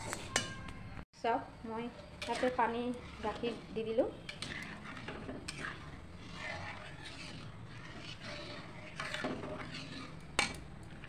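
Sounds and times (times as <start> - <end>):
metal spoon scraping pan: 1.8 - 11.0.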